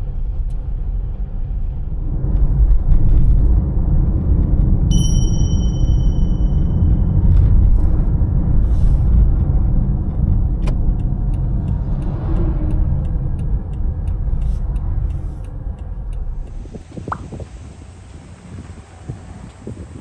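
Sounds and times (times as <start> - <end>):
road vehicle rumble: 0.0 - 20.0.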